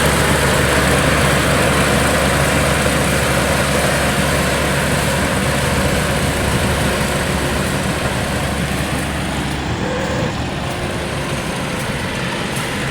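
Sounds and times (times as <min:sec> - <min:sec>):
combine harvester droning: 0:00.0 - 0:12.9.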